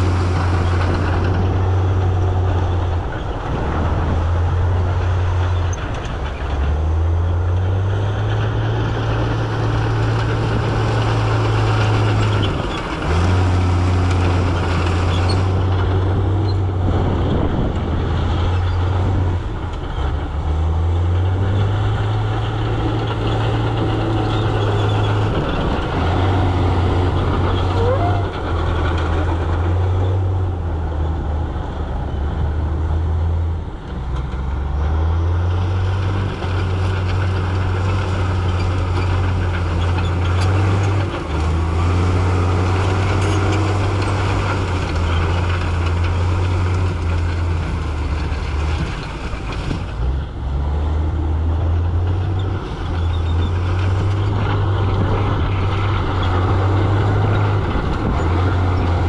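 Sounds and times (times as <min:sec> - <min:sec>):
heavy diesel engine running hard: 0:00.0 - 0:59.0
rough noisy rumble: 0:00.0 - 0:59.0.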